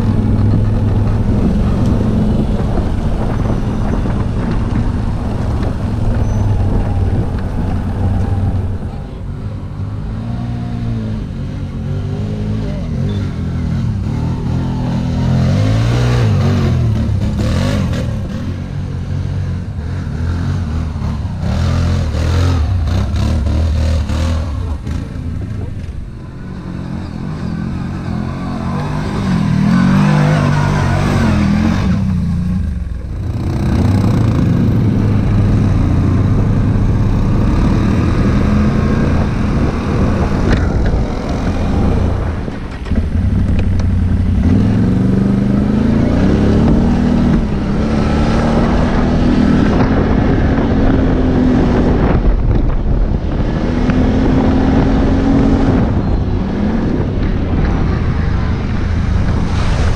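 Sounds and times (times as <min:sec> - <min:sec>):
quad bike engine revving: 0:00.0 - 0:52.8.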